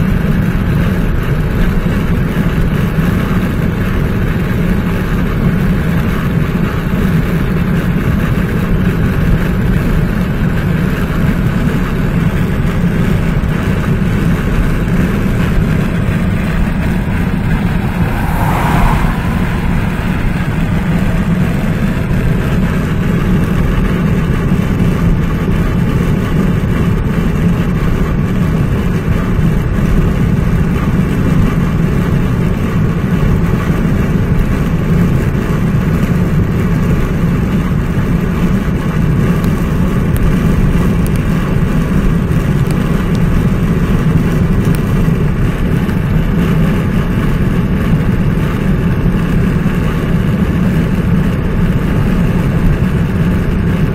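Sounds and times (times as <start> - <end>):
car cabin road rumble: 0.0 - 53.9.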